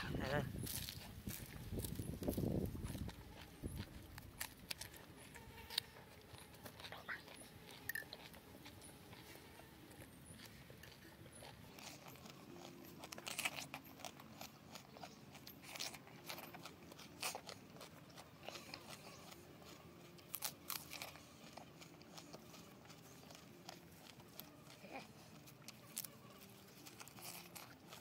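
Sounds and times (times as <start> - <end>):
crisp crunching bites: 0.6 - 8.9, 10.4 - 28.0
person chewing food: 0.6 - 28.0.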